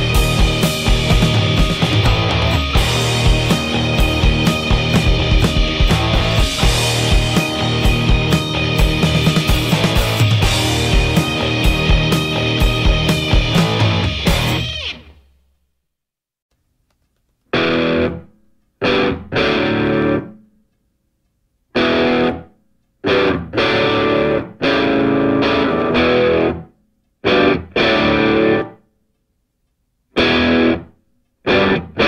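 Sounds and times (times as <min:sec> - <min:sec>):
distorted electric guitar chords: 0:00.0 - 0:15.3, 0:17.5 - 0:20.4, 0:21.8 - 0:28.8, 0:30.2 - 0:32.0.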